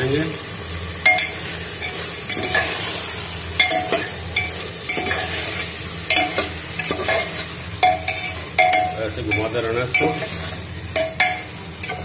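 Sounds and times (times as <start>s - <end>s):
food sizzling in oil: 0.0s - 12.0s
metal ladle clinking and scraping pot: 1.0s - 3.0s, 3.6s - 12.0s.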